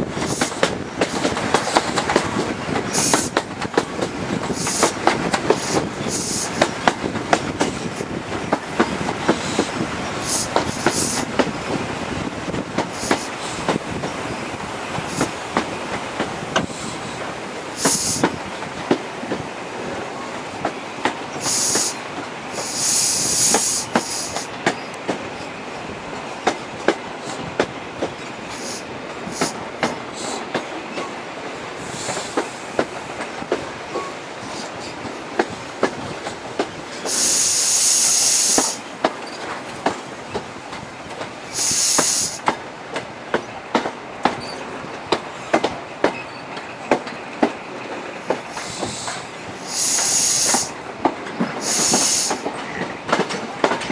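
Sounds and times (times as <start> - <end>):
train wheels clicking over rail joints: 0.0 - 53.9.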